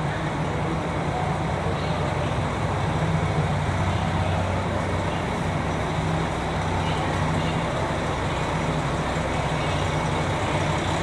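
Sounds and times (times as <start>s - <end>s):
diesel train engine humming: 0.0s - 11.0s.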